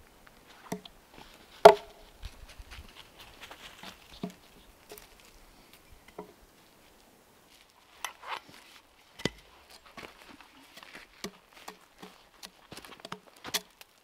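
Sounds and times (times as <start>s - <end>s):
dog footsteps on dry leaves: 0.4s - 5.9s, 6.6s - 14.0s.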